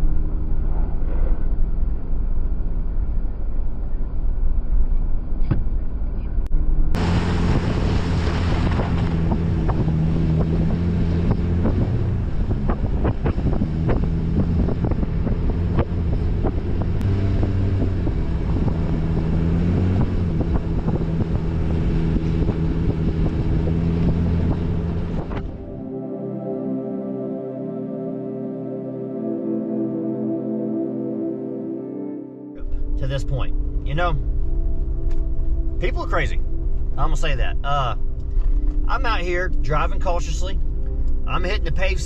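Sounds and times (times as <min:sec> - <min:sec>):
car engine running: 0:00.0 - 0:25.8, 0:32.6 - 0:42.0
road and wind noise: 0:00.0 - 0:27.9, 0:32.5 - 0:42.0.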